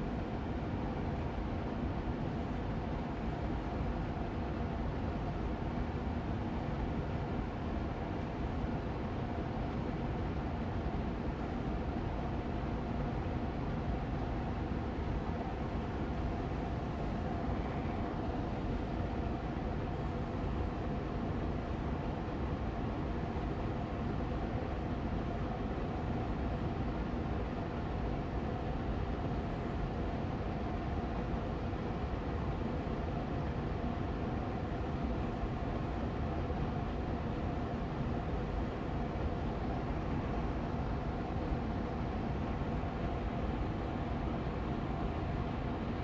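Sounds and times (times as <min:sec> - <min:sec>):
air purifier fan running: 0:00.0 - 0:46.0.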